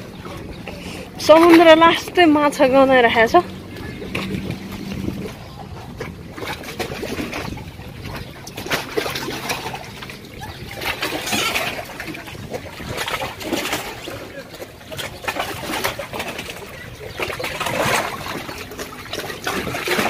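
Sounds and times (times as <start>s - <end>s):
sea water splashing: 0.0s - 20.0s.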